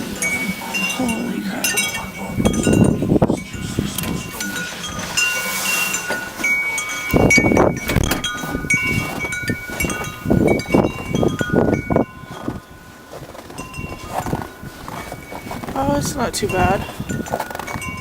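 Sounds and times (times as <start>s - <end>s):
wind chimes ringing: 0.0s - 18.0s
wind rumbling on microphone: 0.0s - 18.0s.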